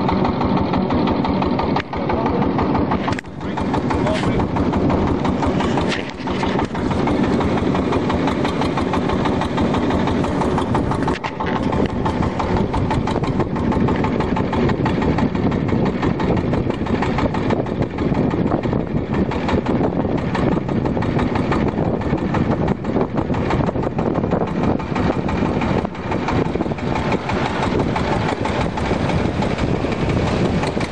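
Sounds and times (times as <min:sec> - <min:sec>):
boat engine running: 0:00.0 - 0:30.9.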